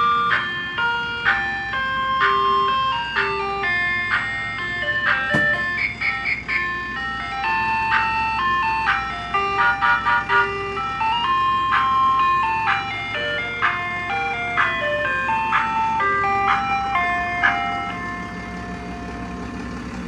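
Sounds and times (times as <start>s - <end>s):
ice cream truck jingle: 0.0s - 20.0s
low engine hum: 0.0s - 20.0s.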